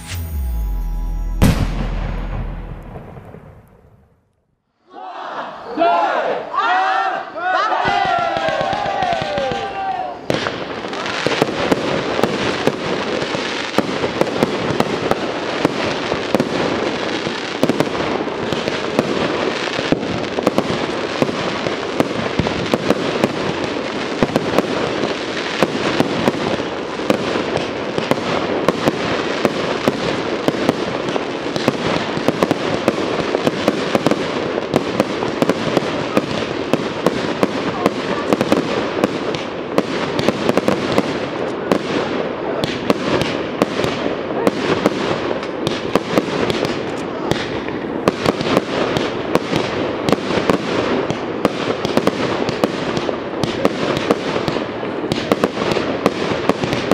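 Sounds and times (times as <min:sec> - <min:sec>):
fireworks bangs and pops: 0:01.3 - 0:04.2, 0:07.8 - 0:56.9.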